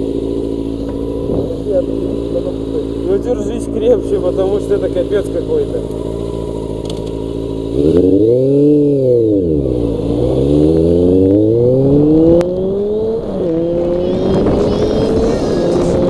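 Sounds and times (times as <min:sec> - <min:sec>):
motorcycle accelerating away: 0:00.0 - 0:16.0
motorcycle engine idling and revving: 0:00.0 - 0:16.0.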